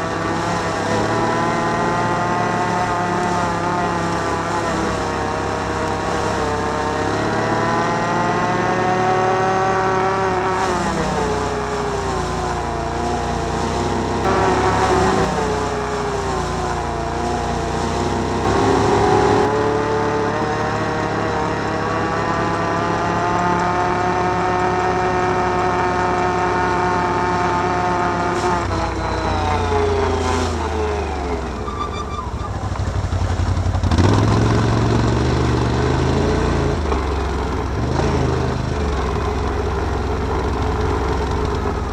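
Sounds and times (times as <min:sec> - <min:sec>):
atv engine revving: 0:00.0 - 0:41.9.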